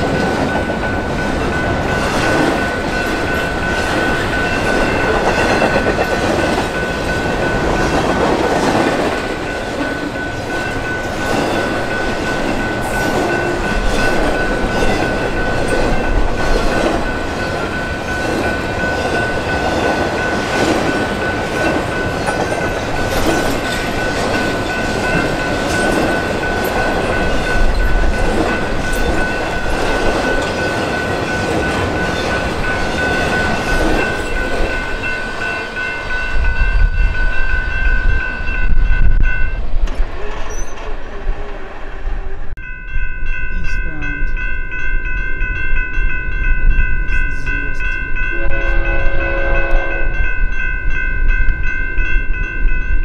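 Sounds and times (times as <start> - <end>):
wind buffeting microphone: 0.0 - 43.5, 47.9 - 53.0
train wheels rumbling on rails: 0.0 - 53.0.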